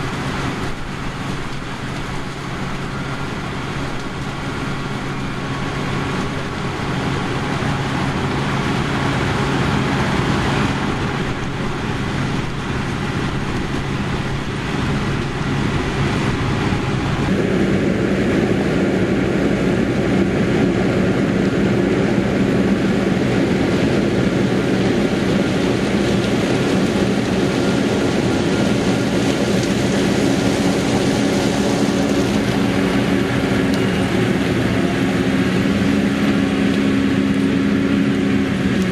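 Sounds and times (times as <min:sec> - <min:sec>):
diesel farm machinery running: 0:00.0 - 0:38.9.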